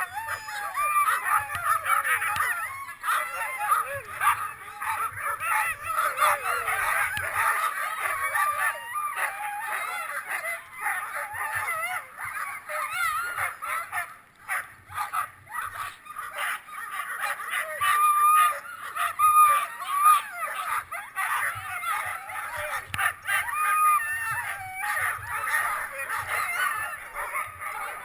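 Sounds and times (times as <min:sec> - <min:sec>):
sled dogs barking and howling: 0:00.0 - 0:28.0.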